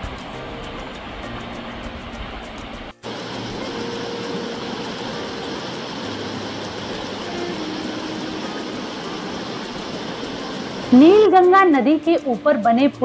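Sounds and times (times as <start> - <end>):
river flowing over rocks: 0.0 - 11.1.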